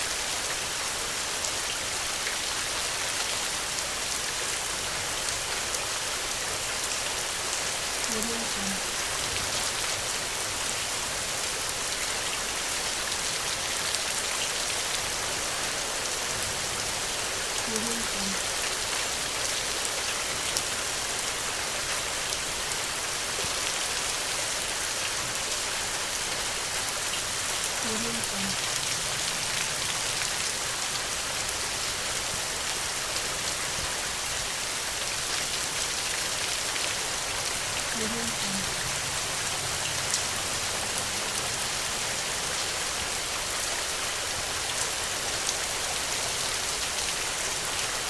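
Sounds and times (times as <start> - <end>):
rain hissing on a surface: 0.0 - 48.0.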